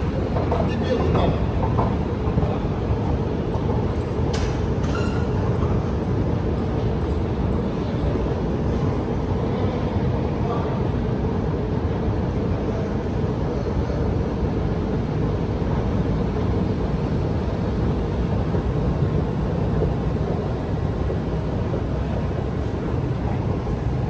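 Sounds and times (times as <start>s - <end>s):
low rumble of metro station: 0.0s - 24.0s.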